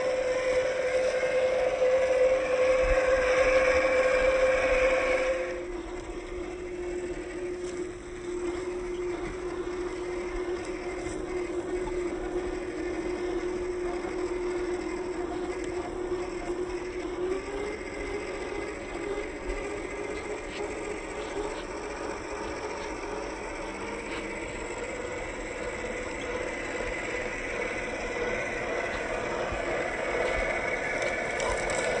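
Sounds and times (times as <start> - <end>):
electric motor whining: 0.0 - 32.0.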